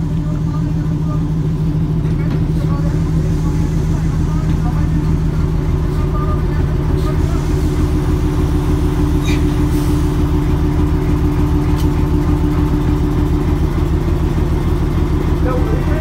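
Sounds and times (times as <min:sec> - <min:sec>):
diesel locomotive engine idling: 0:00.0 - 0:16.0.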